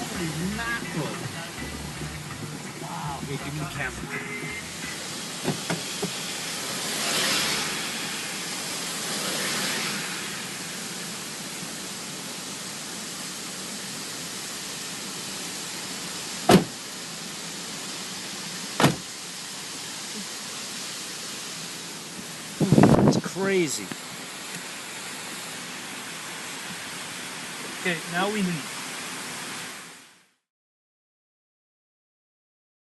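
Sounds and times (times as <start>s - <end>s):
torrential rain: 0.0s - 30.4s.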